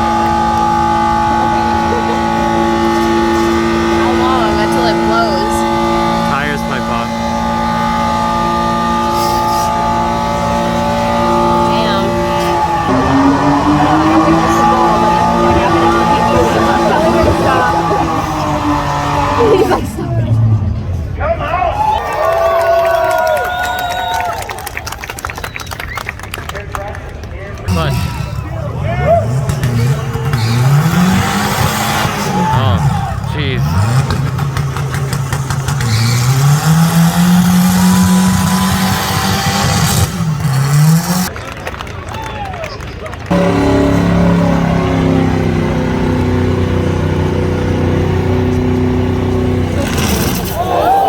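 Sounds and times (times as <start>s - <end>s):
car engine revving: 0.0s - 23.8s, 27.1s - 41.4s, 43.2s - 51.0s.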